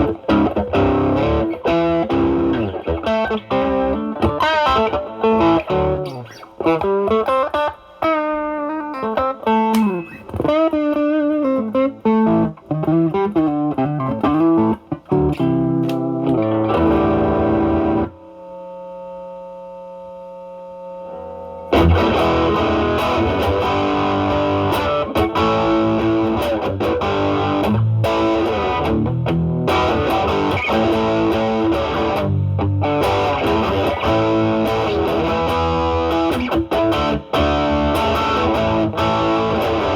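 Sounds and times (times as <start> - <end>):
electric guitar chord ringing: 0.0 - 12.5, 13.2 - 18.9, 20.9 - 39.9
distorted electric guitar lead: 0.0 - 18.5, 20.9 - 39.9.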